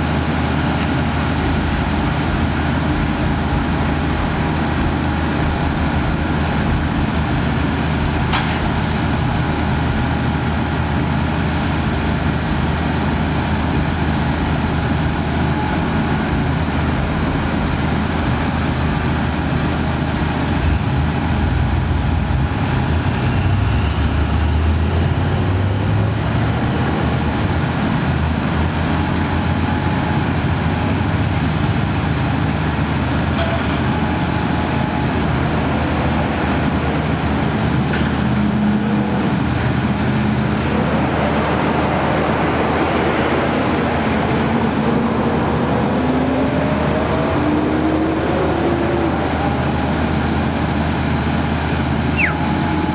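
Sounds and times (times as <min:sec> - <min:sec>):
truck engine running: 0:00.0 - 0:52.9.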